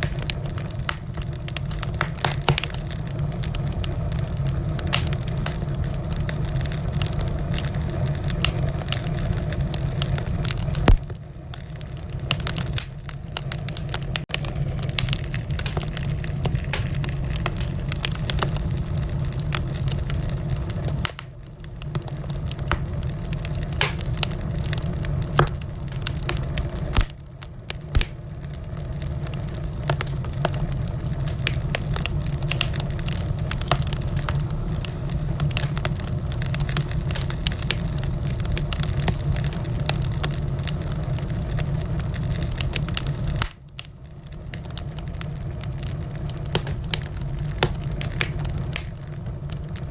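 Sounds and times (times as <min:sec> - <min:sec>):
fire flames rumbling: 0:00.0 - 0:49.9
fire popping and snapping: 0:00.0 - 0:49.9.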